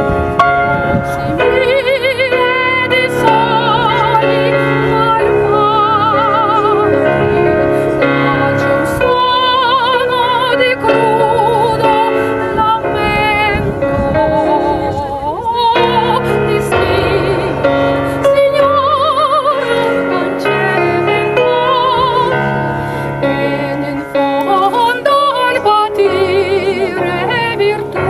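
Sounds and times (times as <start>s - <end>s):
electronic keyboard chords: 0.0s - 28.0s
woman singing opera-style: 1.2s - 28.0s.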